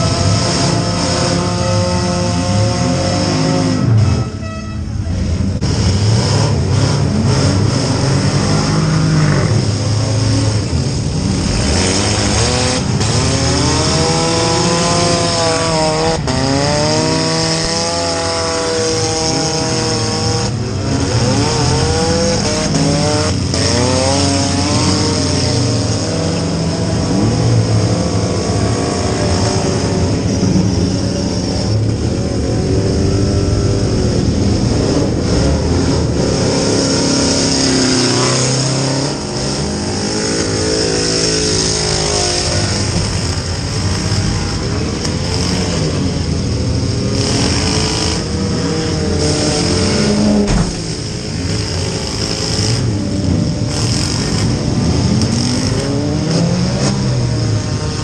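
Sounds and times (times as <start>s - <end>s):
car engine revving: 0.0s - 4.4s, 5.1s - 58.0s.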